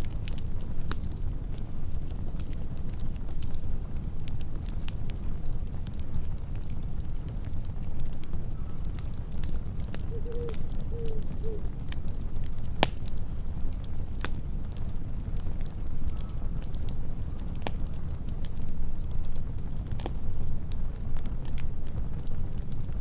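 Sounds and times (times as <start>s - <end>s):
campfire crackling: 0.0s - 23.0s
crickets chirping: 0.1s - 23.0s.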